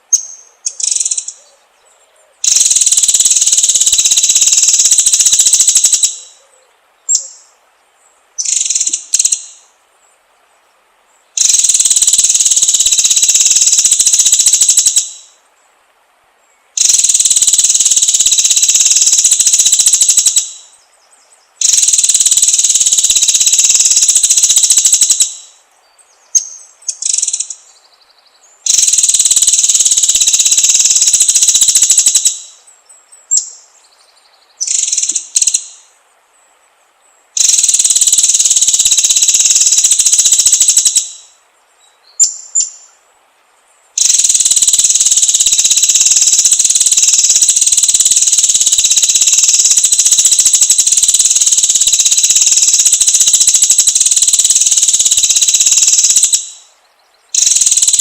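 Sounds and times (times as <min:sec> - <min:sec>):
bird chirping: 0:00.0 - 0:15.4, 0:16.4 - 0:58.0
bird singing rolling trills: 0:00.0 - 0:15.5, 0:16.4 - 0:58.0.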